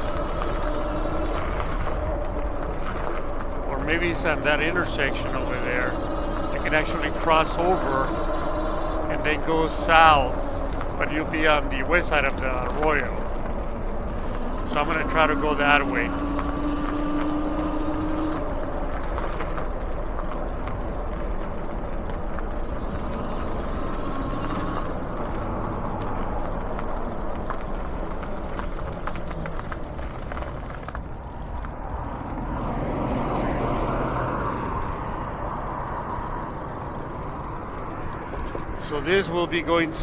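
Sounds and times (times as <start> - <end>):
highway traffic noise: 0.0 - 40.0
vehicle passing: 0.0 - 40.0.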